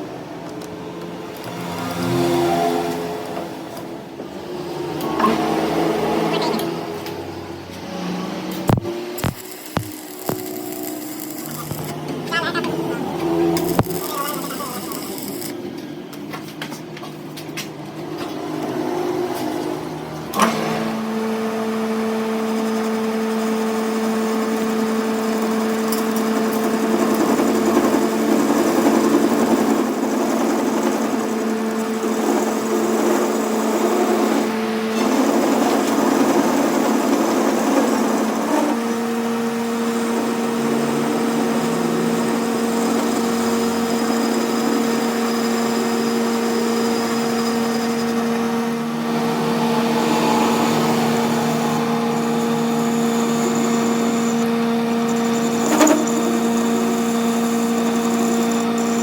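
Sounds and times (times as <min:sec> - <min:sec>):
motor humming: 0:00.4 - 0:16.3, 0:17.8 - 0:59.0.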